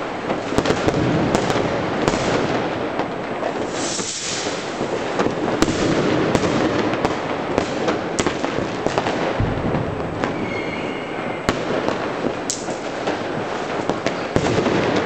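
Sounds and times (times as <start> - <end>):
distant firework crackle and rumble: 0.0 - 15.0
sharp firecracker bangs: 0.0 - 15.0.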